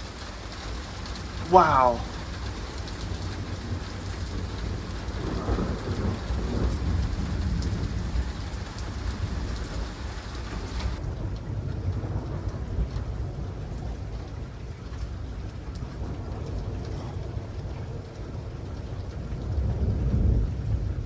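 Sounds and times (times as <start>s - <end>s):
rain falling: 0.0s - 21.0s
rolling thunder rumble: 2.0s - 14.6s, 16.0s - 21.0s.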